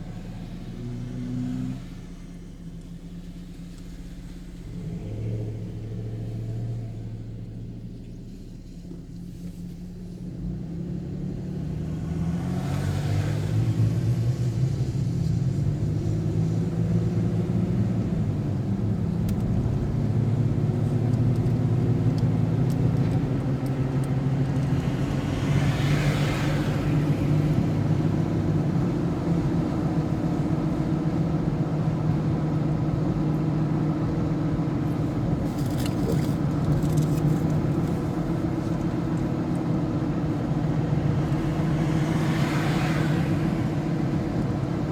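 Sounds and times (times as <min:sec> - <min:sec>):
road noise: 0:00.0 - 0:44.9
vehicle engine running: 0:00.0 - 0:44.9.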